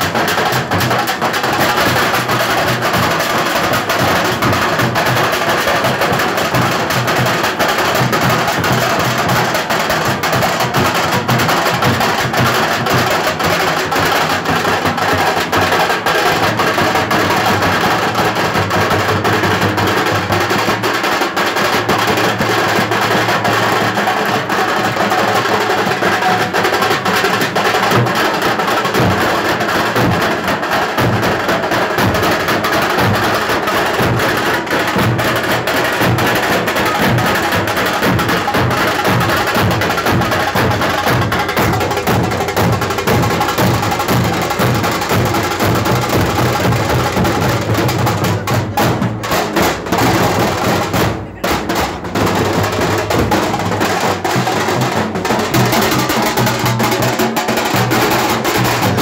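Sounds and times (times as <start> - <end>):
metal drums beaten in rhythm: 0.0 - 59.0.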